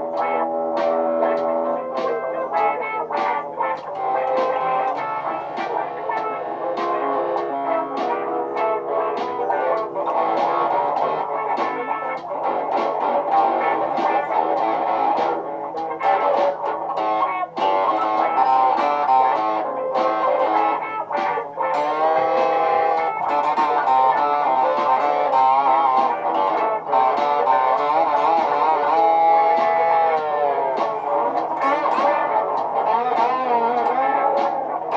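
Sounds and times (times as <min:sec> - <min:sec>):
electric guitar playing: 0:00.0 - 0:34.9
layered guitar loops: 0:00.0 - 0:34.9.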